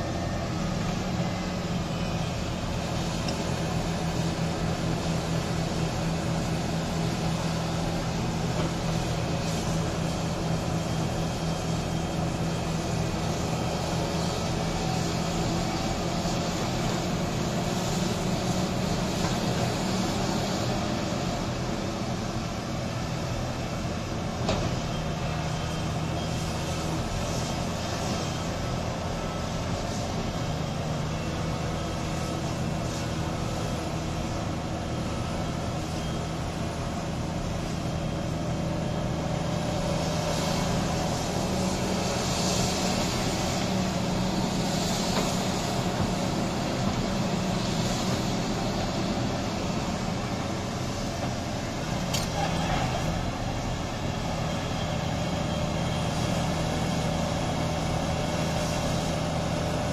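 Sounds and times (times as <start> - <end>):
big diesel engines running: 0.0 - 59.9.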